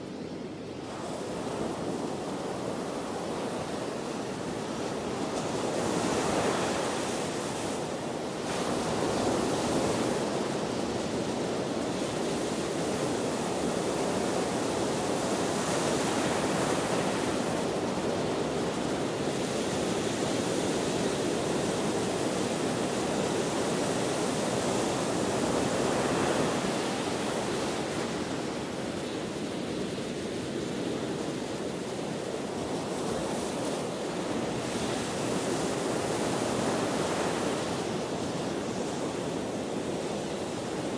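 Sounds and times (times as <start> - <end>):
ocean waves breaking on shore: 0.1 - 40.9.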